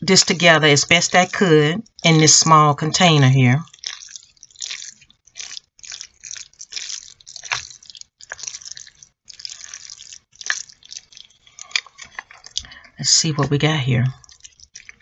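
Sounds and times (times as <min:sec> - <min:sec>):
sticky stirring of noodles: 0:00.0 - 0:15.0.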